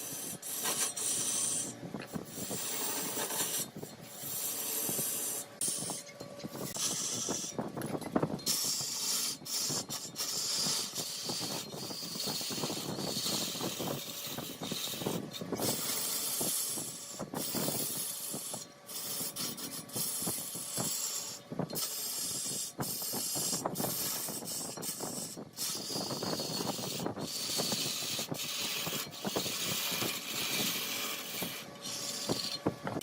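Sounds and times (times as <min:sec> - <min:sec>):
lathe tool scraping spinning wood: 0:00.0 - 0:33.0.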